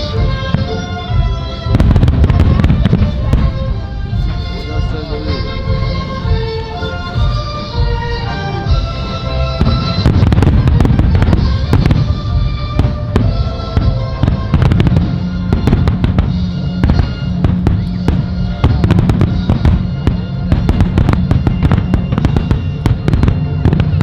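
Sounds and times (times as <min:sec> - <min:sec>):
fireworks cracking and booming: 0:00.0 - 0:24.0
music over loudspeakers: 0:00.0 - 0:24.0.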